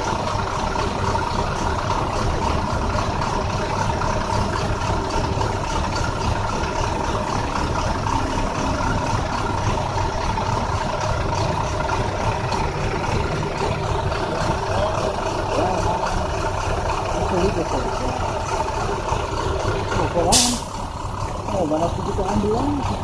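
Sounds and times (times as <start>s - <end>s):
misfiring bus engine: 0.0s - 23.0s.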